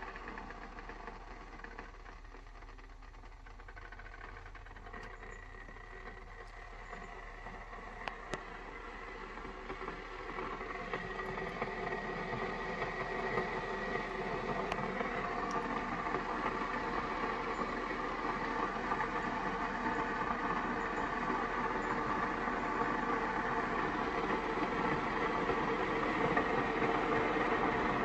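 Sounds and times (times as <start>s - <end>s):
coffee maker humming and hissing: 0.0s - 28.0s.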